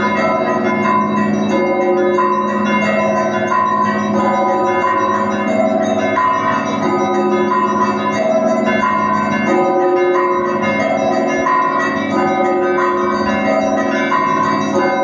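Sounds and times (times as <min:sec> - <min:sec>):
church bells pealing: 0:00.0 - 0:15.0.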